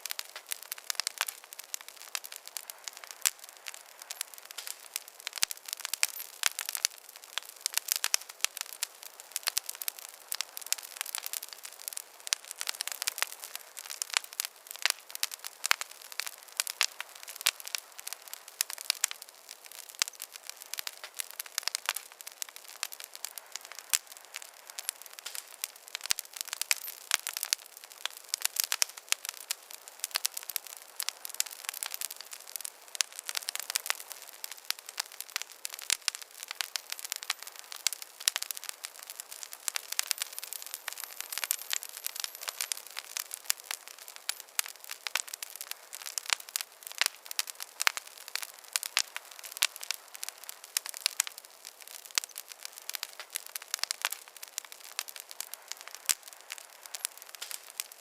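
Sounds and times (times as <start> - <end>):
campfire crackling: 0.0 - 58.0
fire hissing: 0.0 - 58.0.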